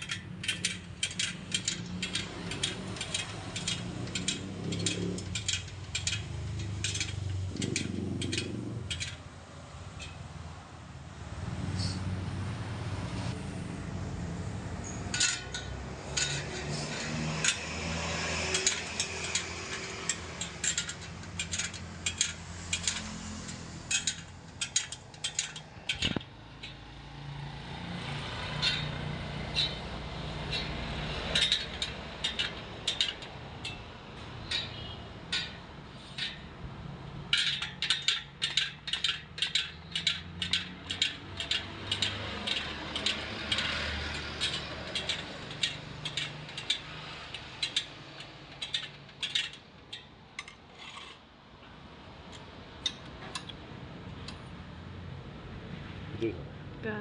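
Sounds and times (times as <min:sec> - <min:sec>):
metallic clicks of tools: 0:00.0 - 0:10.6, 0:14.8 - 0:54.6.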